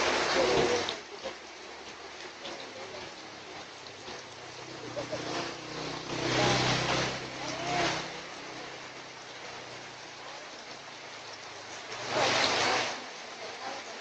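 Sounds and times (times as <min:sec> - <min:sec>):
steady rain: 0:00.0 - 0:14.0
tyres hissing on wet road: 0:00.0 - 0:14.0.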